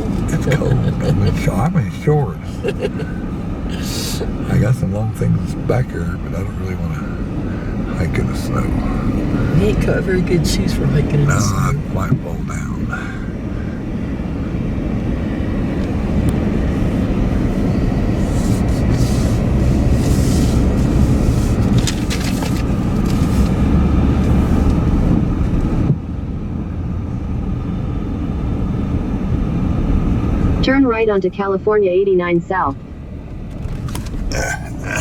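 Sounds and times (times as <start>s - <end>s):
car cabin road noise: 0.0s - 35.0s.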